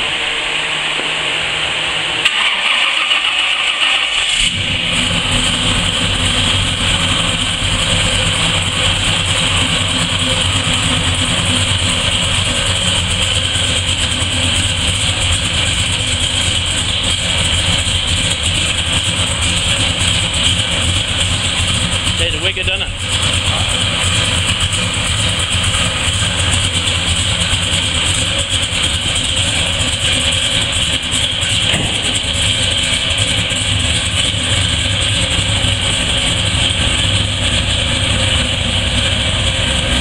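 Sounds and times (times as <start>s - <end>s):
car engine idling: 0.0s - 40.0s
car engine starting: 0.0s - 40.0s.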